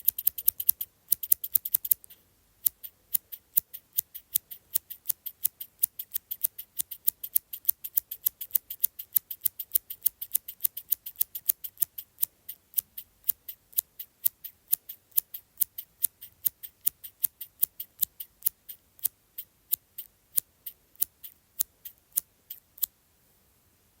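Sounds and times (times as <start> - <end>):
small scissors snipping: 0.0 - 22.9.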